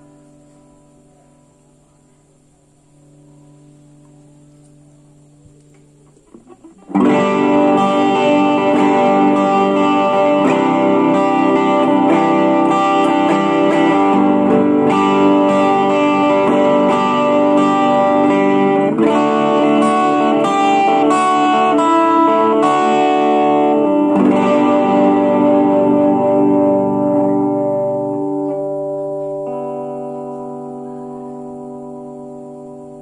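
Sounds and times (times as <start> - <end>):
electric guitar chords: 0.0 - 2.1, 2.8 - 33.0
amp hum: 0.0 - 33.0.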